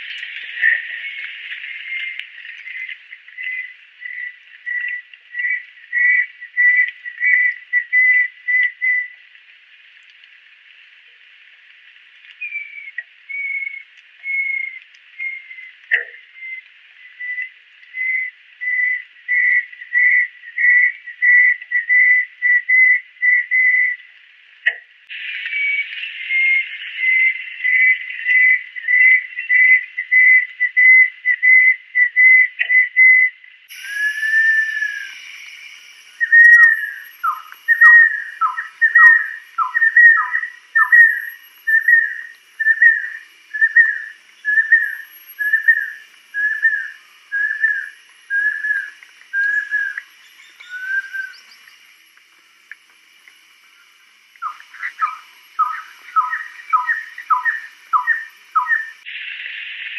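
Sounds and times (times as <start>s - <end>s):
high background hiss: 0.0s - 59.9s
bird whistling: 1.8s - 9.2s, 12.4s - 24.0s, 25.4s - 51.8s, 54.4s - 59.1s.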